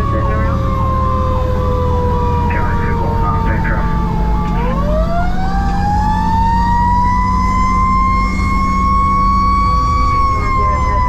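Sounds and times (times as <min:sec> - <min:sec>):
fire engine siren winding up: 0:00.0 - 0:11.0
truck engine rumble: 0:00.0 - 0:11.0.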